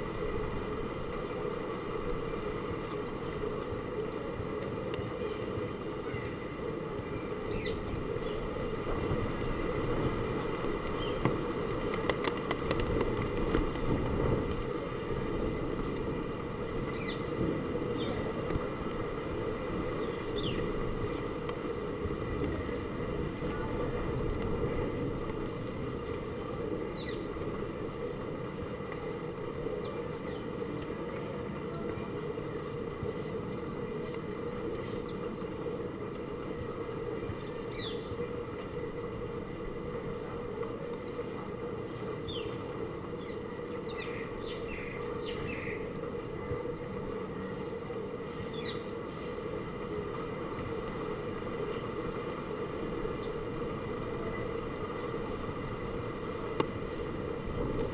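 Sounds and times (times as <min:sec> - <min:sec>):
strong wind: 0:00.0 - 0:57.9.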